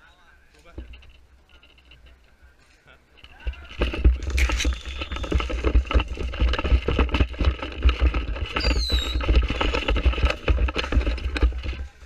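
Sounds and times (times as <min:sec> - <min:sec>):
camera rustling and knocking: 0:00.6 - 0:02.4, 0:03.1 - 0:12.0.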